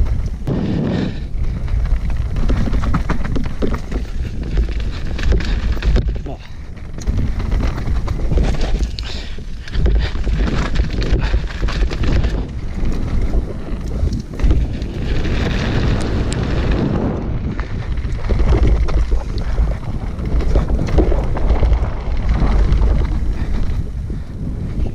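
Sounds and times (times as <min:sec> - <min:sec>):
bike clicks and rattles: 0:00.0 - 0:24.9
tyres rolling on dirt and stones: 0:00.0 - 0:24.9
wind buffeting microphone: 0:00.0 - 0:24.9.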